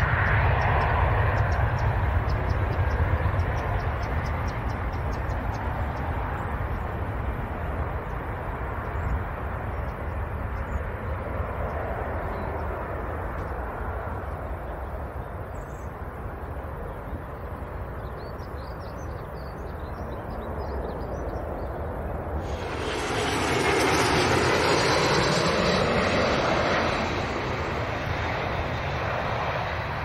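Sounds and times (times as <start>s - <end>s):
jet engines at take-off power: 0.0s - 30.0s.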